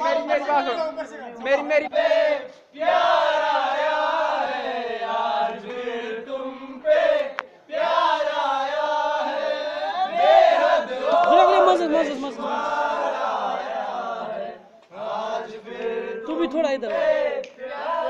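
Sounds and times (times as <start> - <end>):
young men singing in unison: 1.5 - 18.0.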